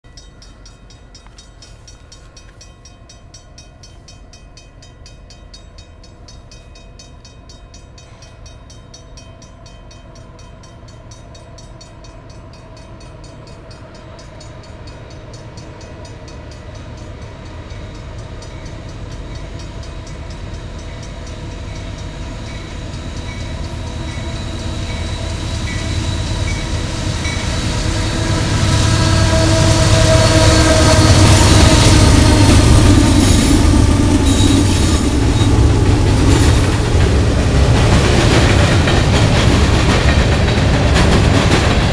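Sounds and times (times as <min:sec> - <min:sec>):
crossing warning bell: 0:00.0 - 0:41.5
freight train rumbling: 0:00.0 - 0:41.9.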